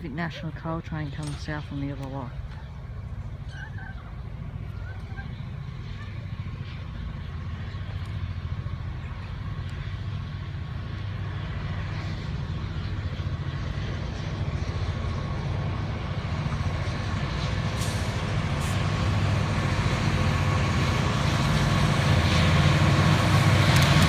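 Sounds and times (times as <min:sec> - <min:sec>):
diesel locomotives rumbling: 0:00.0 - 0:24.0.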